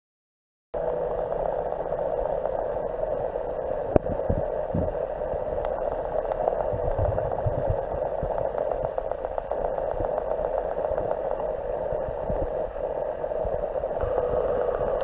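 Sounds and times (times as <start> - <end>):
muffled recording hiss: 0.8 - 15.0.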